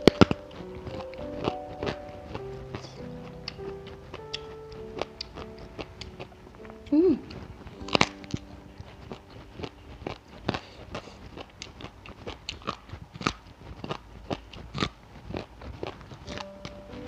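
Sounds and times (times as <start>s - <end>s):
person crunching raw vegetables: 0.0s - 17.0s.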